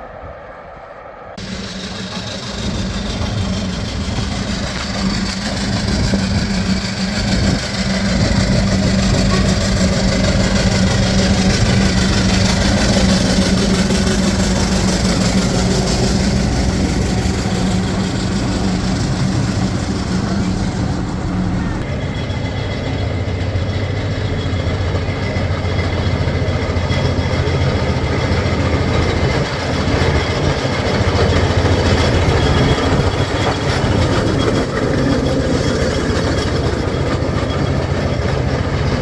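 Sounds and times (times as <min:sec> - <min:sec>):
large engine humming: 0:01.0 - 0:39.0.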